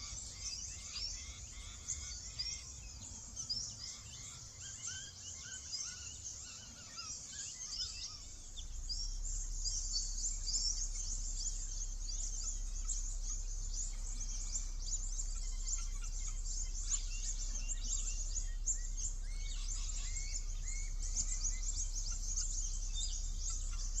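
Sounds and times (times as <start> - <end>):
low steady rumble: 0.0 - 24.0
small birds chirping and trilling: 0.0 - 24.0.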